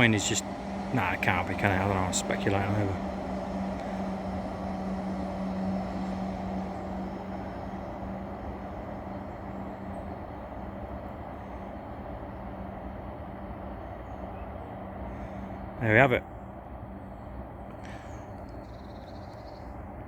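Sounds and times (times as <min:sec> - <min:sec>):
freight train rumbling past: 0:00.0 - 0:20.0
low hum: 0:00.0 - 0:20.0.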